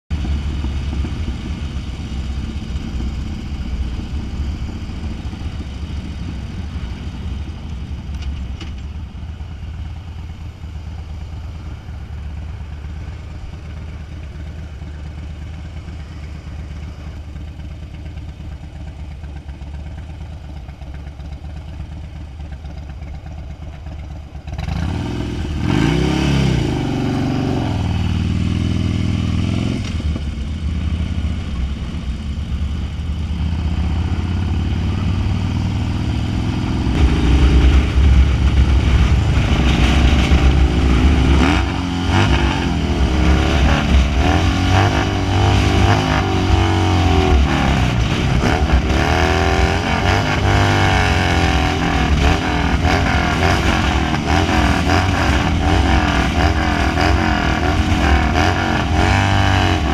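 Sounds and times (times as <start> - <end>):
motorcycle engine rumbling: 0.1 - 59.9.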